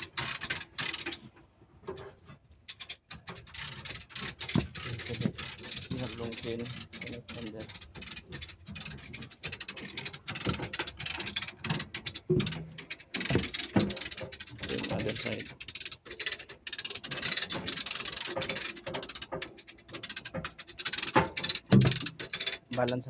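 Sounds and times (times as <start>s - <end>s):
chain hoist ratcheting clicks: 0.0s - 1.3s, 2.7s - 23.0s.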